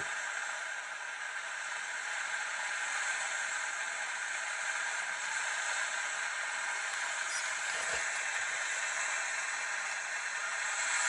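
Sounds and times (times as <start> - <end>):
steam hissing from valve: 1.2 - 11.0.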